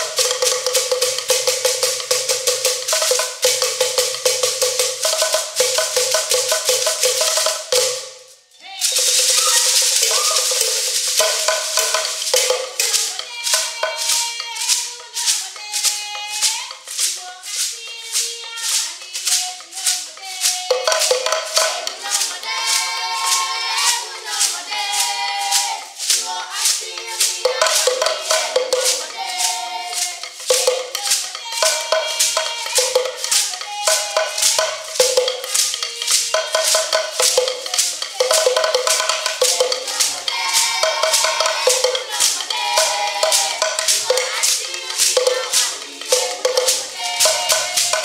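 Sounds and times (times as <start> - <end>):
gourd rattles shaken: 0.0 - 8.0, 8.8 - 48.0
voices singing: 0.0 - 48.0.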